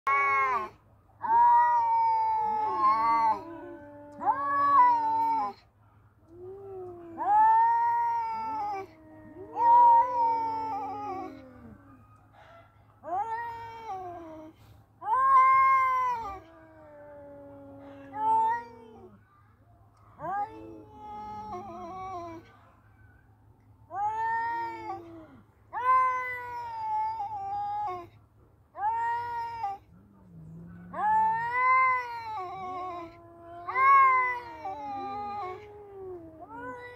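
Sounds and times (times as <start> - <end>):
cats caterwauling: 0.0 - 5.6, 6.3 - 12.0, 13.0 - 19.2, 20.2 - 22.5, 23.9 - 28.2, 28.8 - 36.9.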